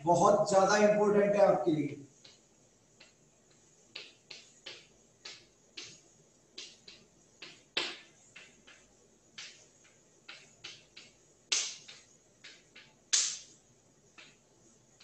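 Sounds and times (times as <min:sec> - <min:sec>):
chalk tapping and scraping on blackboard: 0:02.1 - 0:15.0.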